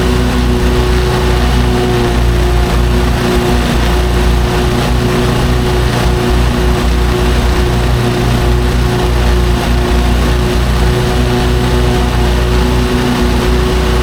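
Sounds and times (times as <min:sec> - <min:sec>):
lawn mower engine droning: 0:00.0 - 0:14.0.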